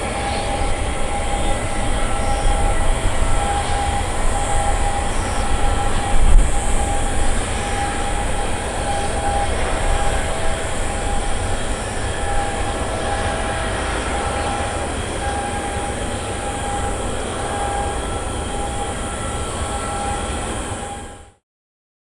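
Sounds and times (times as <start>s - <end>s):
jet engines running: 0.0s - 21.4s.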